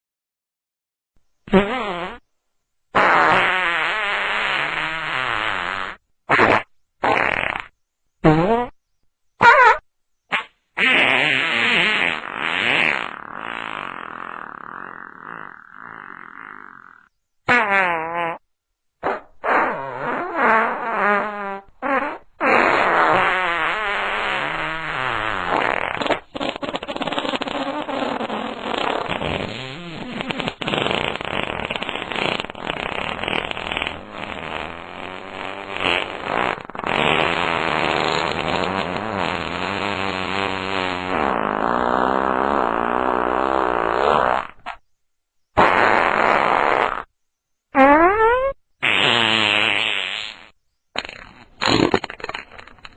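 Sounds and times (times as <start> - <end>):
fart sound effects: 1.5 - 2.3, 3.0 - 8.8, 9.4 - 44.8, 45.6 - 47.1, 47.7 - 52.9.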